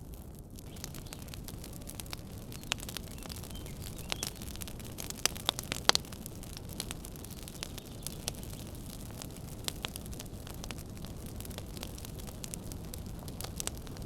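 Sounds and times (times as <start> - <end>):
wood fire crackling: 0.0 - 14.0
sharp pops and snaps: 0.6 - 14.0.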